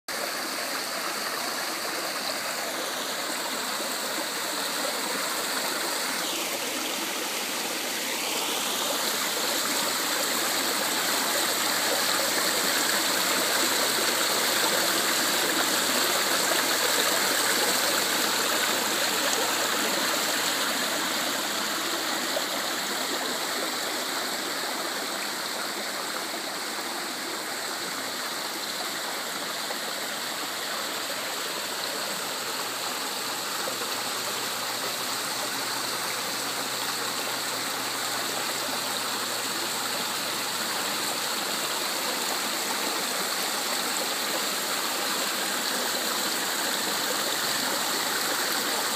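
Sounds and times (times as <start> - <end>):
waterfall splashing into pool: 0.1 - 48.9.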